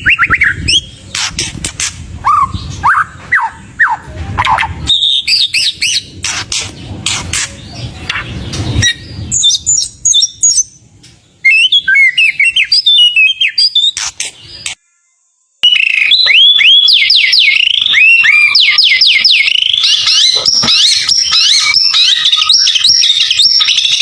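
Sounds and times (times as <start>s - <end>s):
bird singing whistles and clicks: 0.0s - 14.8s, 15.6s - 24.0s.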